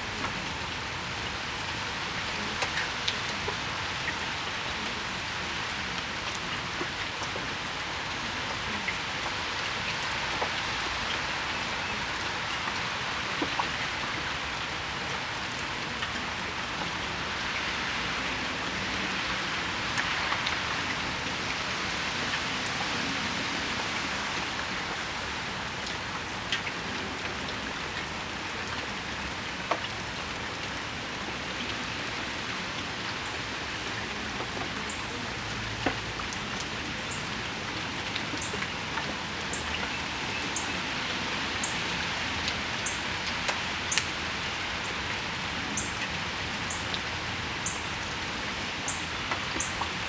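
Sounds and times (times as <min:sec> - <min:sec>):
rain shower hiss: 0:00.0 - 0:50.0
raindrops tapping on surfaces: 0:00.1 - 0:50.0.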